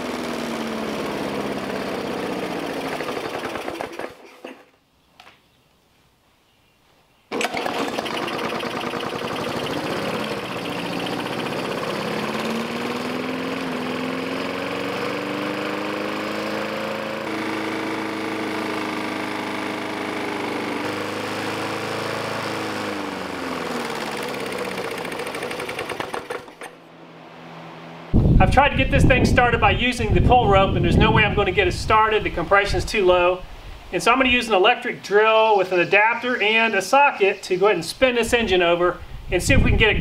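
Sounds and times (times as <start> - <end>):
lawn mower engine running: 0.0 - 4.7, 7.3 - 34.8.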